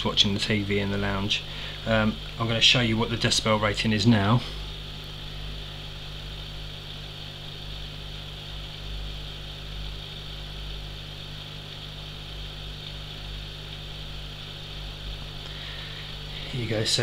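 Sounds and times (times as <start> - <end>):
underwater pump humming: 0.0 - 17.0.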